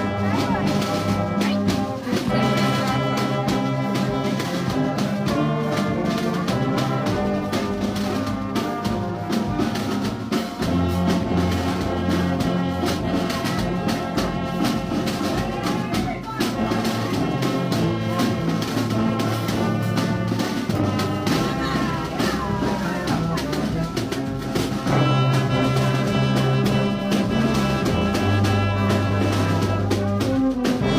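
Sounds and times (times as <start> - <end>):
brass band playing: 0.0 - 30.9
percussive beats: 0.0 - 30.9.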